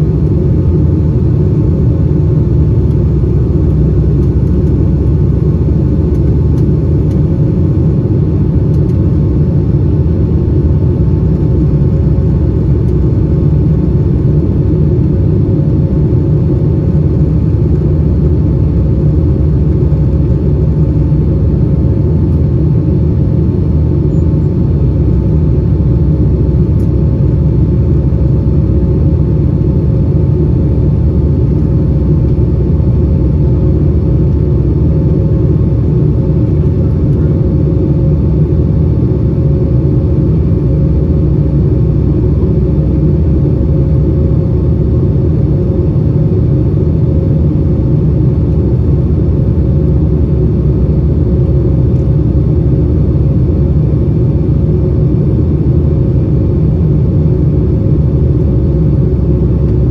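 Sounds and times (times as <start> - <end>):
engine rumble and rushing air: 0.0 - 59.9
faint steady hum: 0.0 - 59.9.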